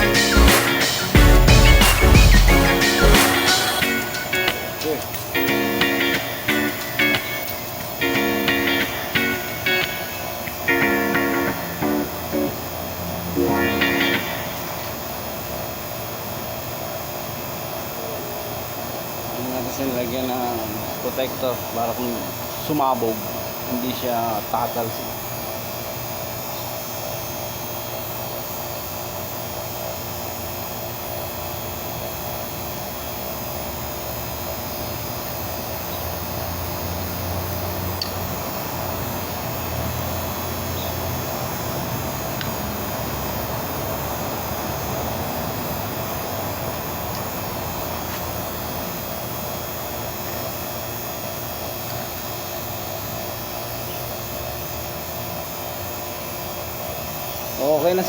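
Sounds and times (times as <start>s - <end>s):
vacuum pump running: 0.0s - 58.0s.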